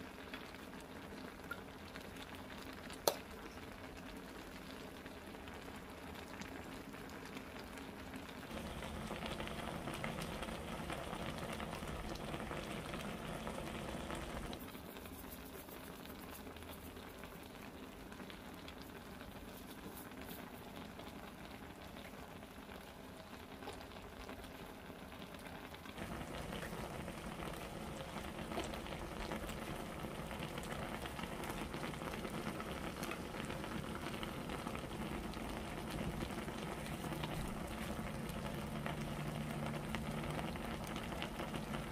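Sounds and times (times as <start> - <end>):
pot bubbling at a simmer: 0.0 - 41.9.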